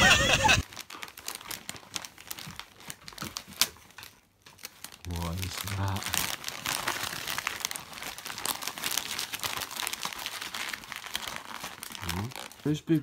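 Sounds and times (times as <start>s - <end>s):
wrapping paper crinkling and tearing: 0.5s - 13.0s.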